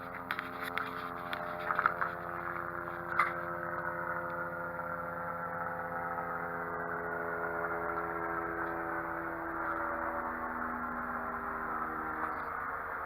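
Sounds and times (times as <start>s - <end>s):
helicopter rotor thrum: 0.0s - 13.0s.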